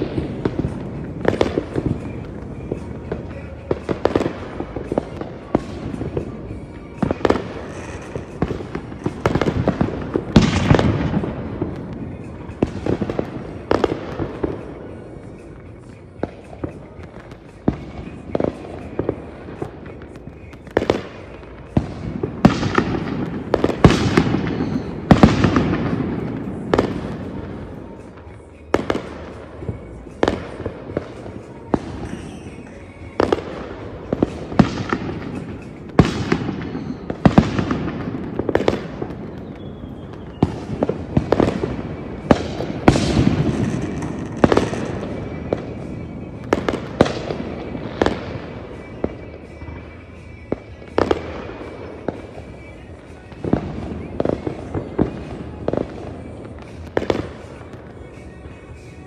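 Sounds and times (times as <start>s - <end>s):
firework shell bursts: 0.0s - 59.0s.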